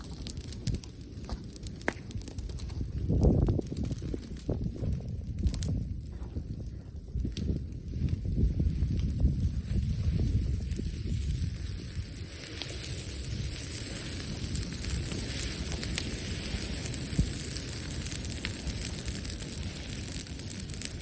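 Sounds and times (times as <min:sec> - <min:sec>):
fire low rush: 0:00.0 - 0:21.0
wood fire crackling pops: 0:00.0 - 0:21.0.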